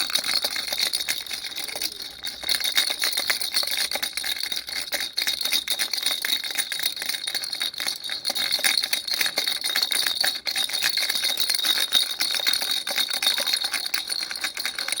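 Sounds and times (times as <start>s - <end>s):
baby rattle jingling: 0.0s - 15.0s.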